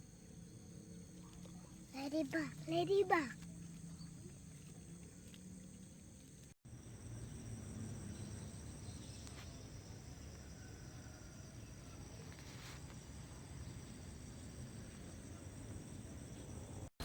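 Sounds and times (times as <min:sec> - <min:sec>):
insects buzzing: 0:00.0 - 0:16.9.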